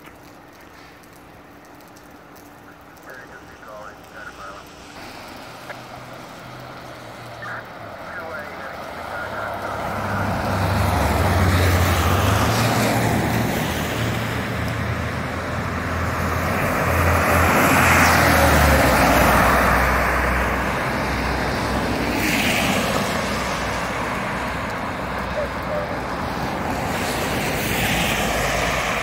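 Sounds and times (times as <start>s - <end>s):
steady traffic noise: 0.0s - 29.0s
tyres hissing through water: 0.0s - 29.0s.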